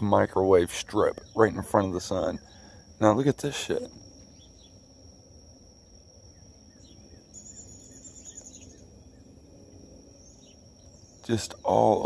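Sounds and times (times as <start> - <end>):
high insect trill: 0.0 - 12.0
bird chirps: 0.9 - 4.9, 6.2 - 12.0.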